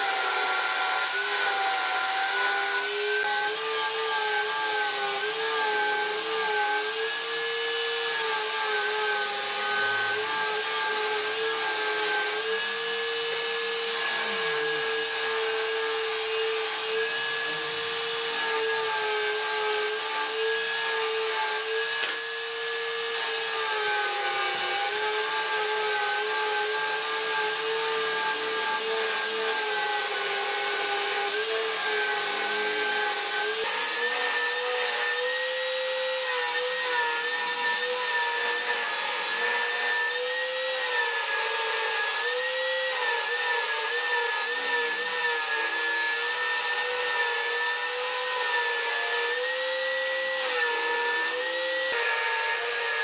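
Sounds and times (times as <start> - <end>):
sander motor whine: 0.0 - 53.0.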